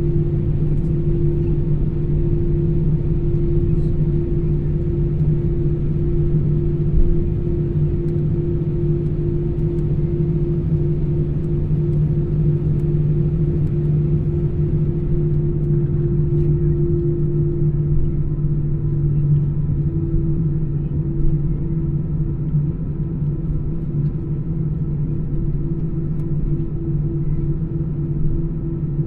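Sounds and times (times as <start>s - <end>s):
airliner cabin drone: 0.0s - 29.0s.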